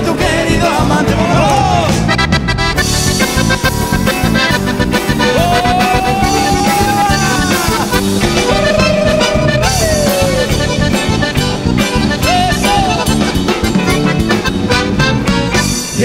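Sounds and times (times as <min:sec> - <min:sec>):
live band playing polka: 0:00.0 - 0:16.0.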